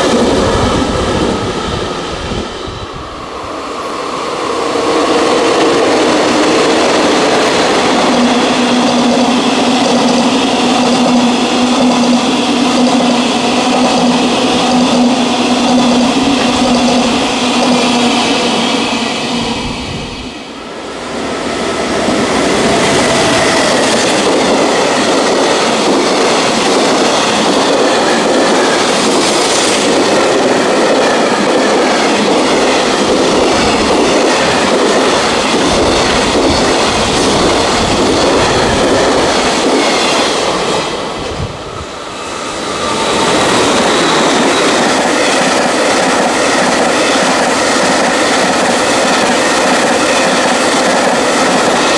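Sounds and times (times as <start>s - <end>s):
freight train passing: 0.0s - 51.9s
wheels clacking on rails: 3.7s - 19.7s, 21.2s - 41.4s, 42.2s - 51.9s.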